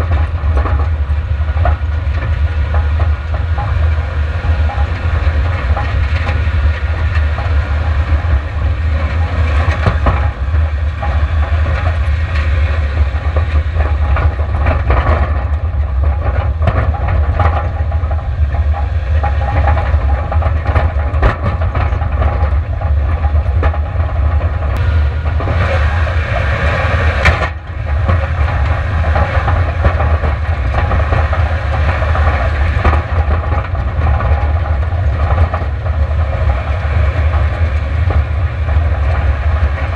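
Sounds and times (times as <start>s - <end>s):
car engine running hard: 0.0s - 39.9s
tyres rumbling on rocky track: 0.0s - 39.9s.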